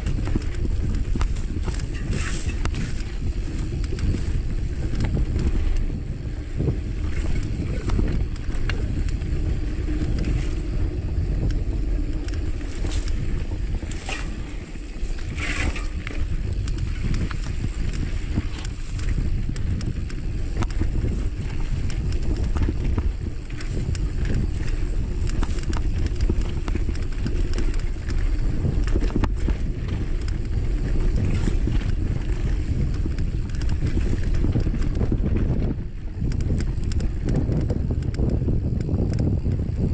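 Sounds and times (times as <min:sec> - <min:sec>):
bike clicks and rattles: 0:00.0 - 0:39.9
bike tyres rumbling on dirt: 0:00.0 - 0:39.9
wind on microphone: 0:00.0 - 0:39.9.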